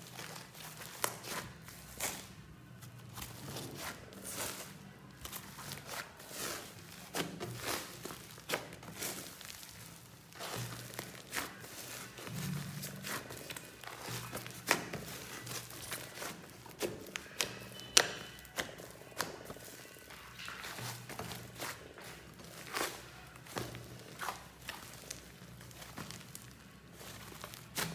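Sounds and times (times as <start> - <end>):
quiet background music: 0.0 - 27.9
slime squishing: 0.0 - 27.9.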